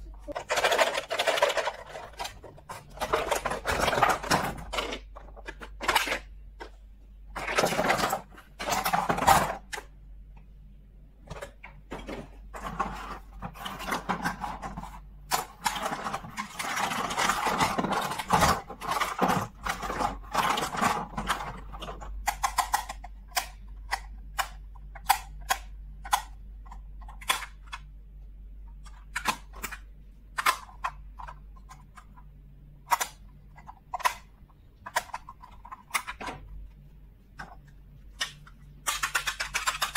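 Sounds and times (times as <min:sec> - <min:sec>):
plastic pieces clicking and tapping: 0:00.2 - 0:10.5, 0:11.2 - 0:39.9.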